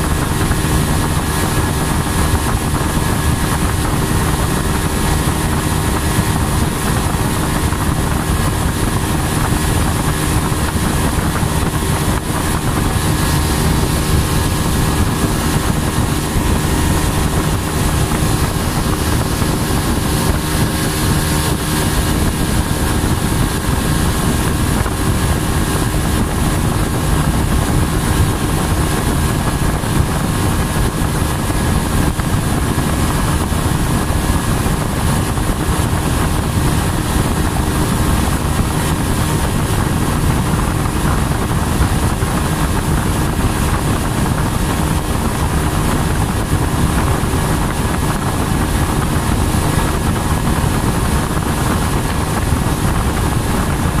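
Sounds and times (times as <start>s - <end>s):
motorboat engine running: 0.0s - 54.0s
wind on microphone: 0.0s - 54.0s.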